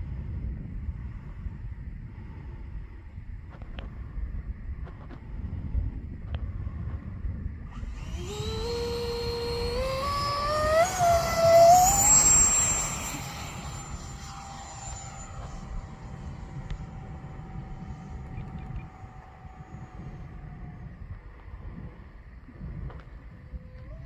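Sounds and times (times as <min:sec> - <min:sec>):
electric ducted fan whine: 0:00.0 - 0:24.0
wind rumble on microphone: 0:00.0 - 0:24.0.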